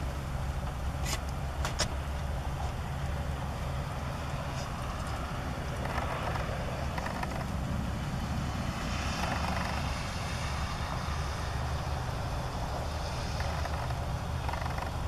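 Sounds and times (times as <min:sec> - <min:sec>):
distant low engine drone: 0:00.0 - 0:15.0.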